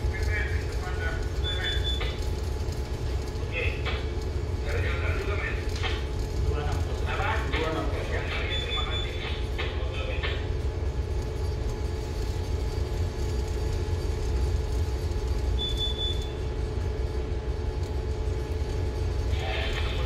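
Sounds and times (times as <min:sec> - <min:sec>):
ship engine drone: 0:00.0 - 0:20.0
steady hum: 0:00.0 - 0:20.0.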